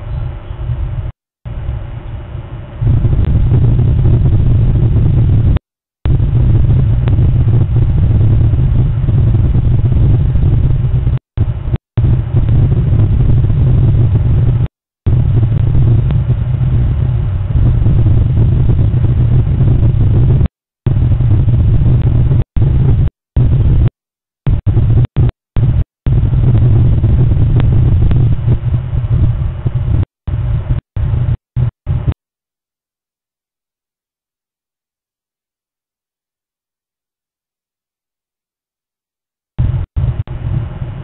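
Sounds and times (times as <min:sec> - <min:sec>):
low rumbling noise: 0:00.0 - 0:23.9, 0:24.5 - 0:32.2, 0:39.6 - 0:41.0.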